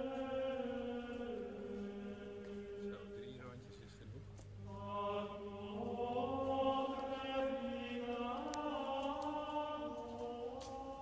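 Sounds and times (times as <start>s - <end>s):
slow sung chant: 0.0s - 3.7s, 4.4s - 11.0s.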